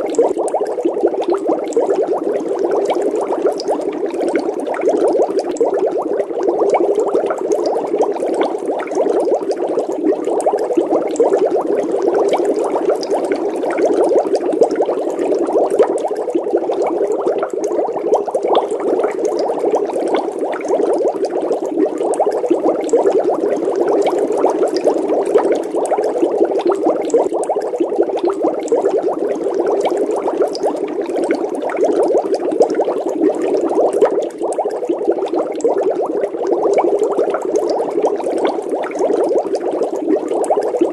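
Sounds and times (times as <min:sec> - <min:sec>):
water bubbling: 0:00.0 - 0:40.9.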